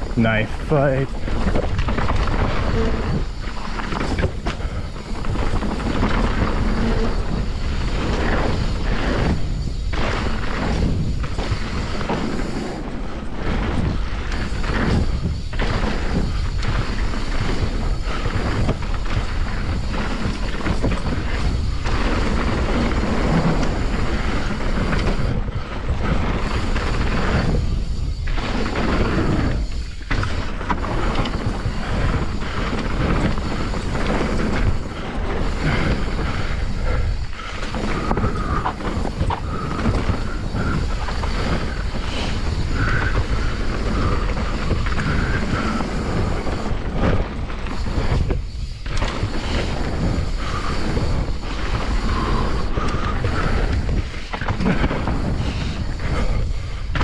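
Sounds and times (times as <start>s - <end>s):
bike tyre noise on dirt: 0.0s - 57.0s
wind rushing over microphone: 0.0s - 57.0s.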